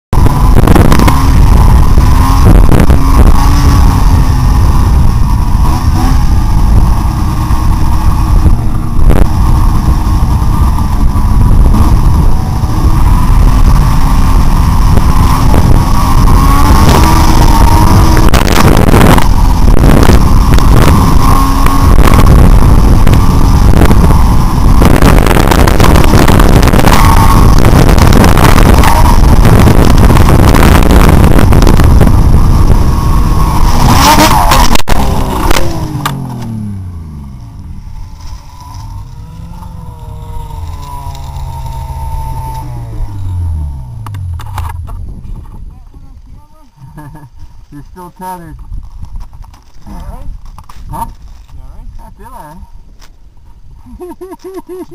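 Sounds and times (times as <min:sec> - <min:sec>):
wind buffeting microphone: 0:00.2 - 0:36.7, 0:38.8 - 0:46.6
snowmobile engine revving: 0:00.2 - 0:45.4, 0:46.5 - 0:48.6.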